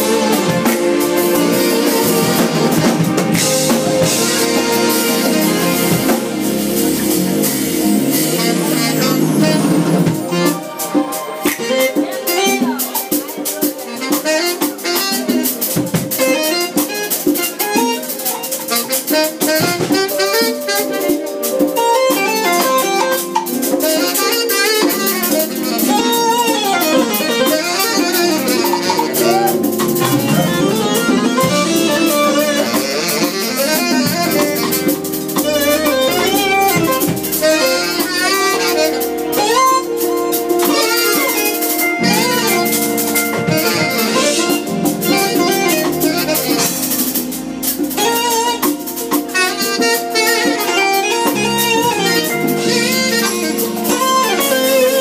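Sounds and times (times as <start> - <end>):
drum kit: 0.0 - 55.0
live band playing: 0.0 - 55.0
pitch-bending lead melody: 0.0 - 55.0.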